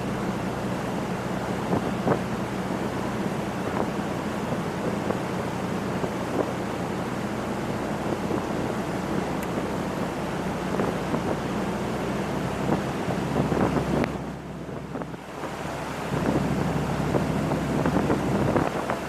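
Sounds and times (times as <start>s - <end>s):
boat engine hum: 0.0s - 19.0s
water rushing past: 0.0s - 19.0s
wind buffeting microphone: 0.0s - 19.0s.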